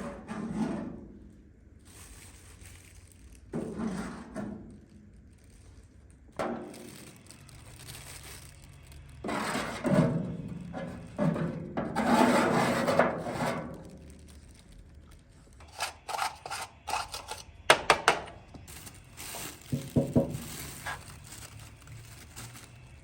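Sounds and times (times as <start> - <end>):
scraping rustle: 1.9 - 17.4, 18.7 - 23.0.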